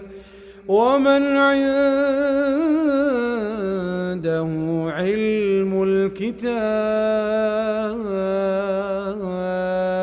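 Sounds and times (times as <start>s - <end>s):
man reciting in chant: 0.0s - 10.0s.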